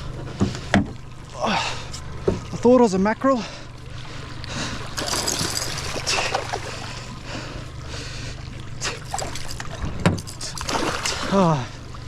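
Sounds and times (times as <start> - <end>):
outboard motor idling: 0.0 - 12.0
water noise: 0.0 - 12.0
water splashes: 0.0 - 12.0.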